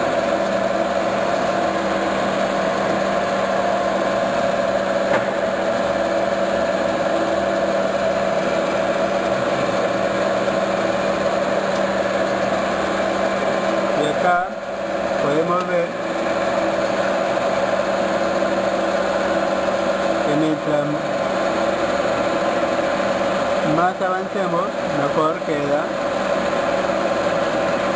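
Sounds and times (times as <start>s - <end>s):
metal lathe humming: 0.0s - 27.9s.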